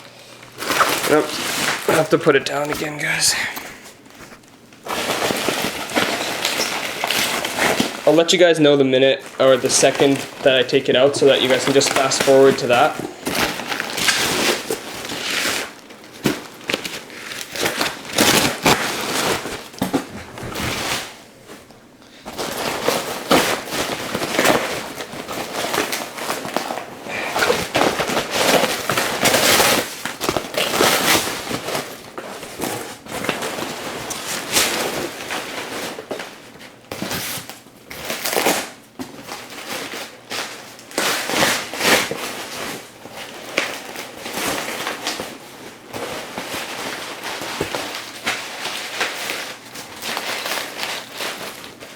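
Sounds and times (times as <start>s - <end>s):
bubble wrap crinkling: 0.2s - 51.9s.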